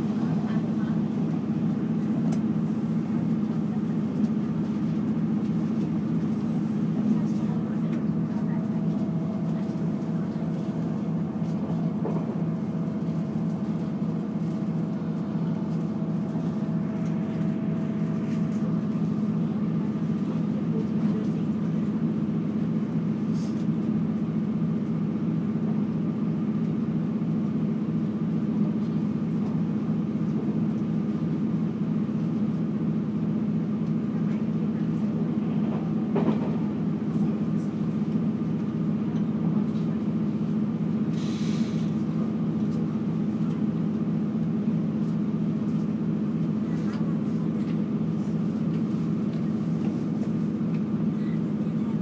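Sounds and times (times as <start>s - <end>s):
train interior rumble: 0.0s - 52.0s.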